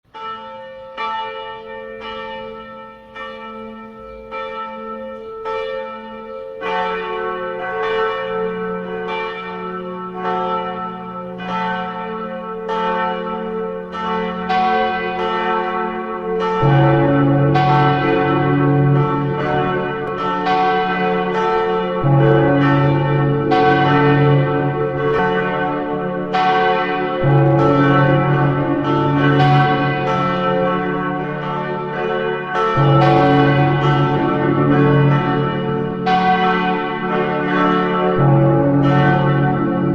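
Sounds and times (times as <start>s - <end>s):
church bells ringing: 0.0s - 39.9s
deep loud bell: 0.1s - 39.9s.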